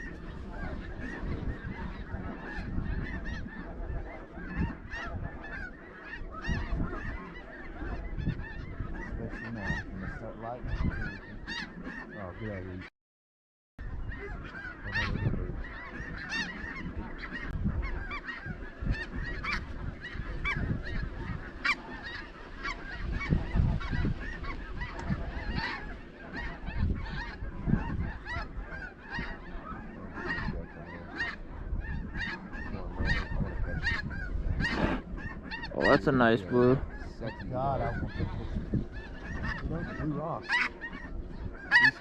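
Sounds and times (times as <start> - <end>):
geese yelping and honking: 0.0 - 12.9, 13.8 - 42.0.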